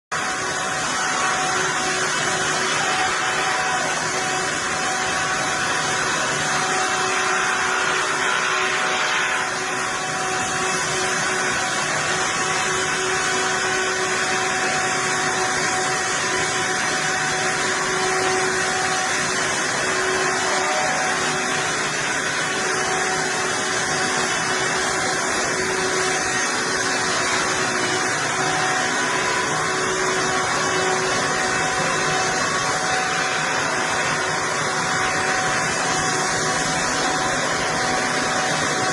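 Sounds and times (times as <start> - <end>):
heavy machinery droning: 0.1 - 38.9
steady hum: 0.1 - 38.9.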